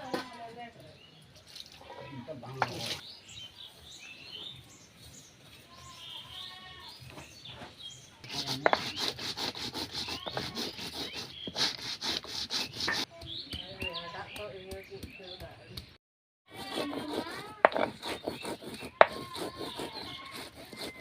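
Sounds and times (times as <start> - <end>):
birds chirping: 0.0 - 16.0, 16.6 - 21.0.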